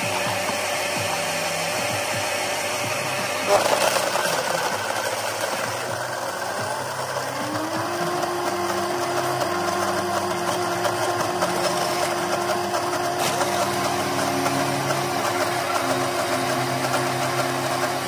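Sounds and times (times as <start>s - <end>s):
blender motor: 0.0s - 18.0s.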